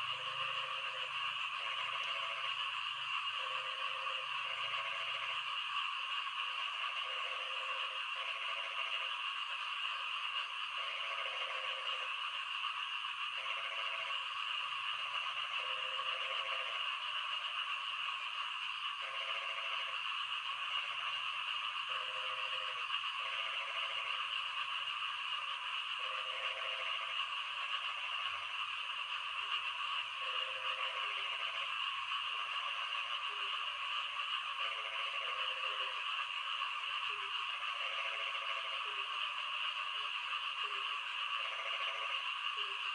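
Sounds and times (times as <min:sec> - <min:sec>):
background frog chorus: 0:00.0 - 0:42.9
frog croaking: 0:00.0 - 0:42.9.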